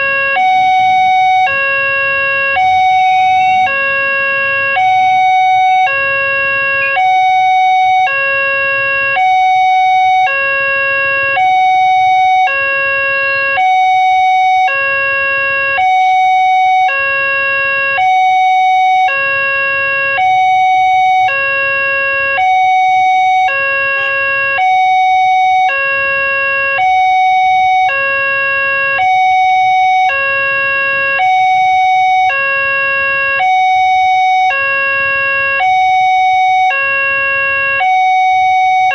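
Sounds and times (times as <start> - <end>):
two-tone crossing alarm: 0.0 - 38.9.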